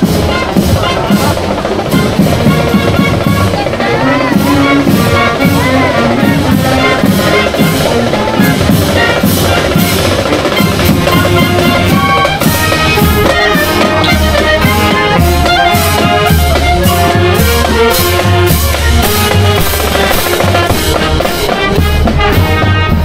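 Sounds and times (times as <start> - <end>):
brass instruments playing: 0.0 - 23.0
snare and bass drums: 0.0 - 23.0.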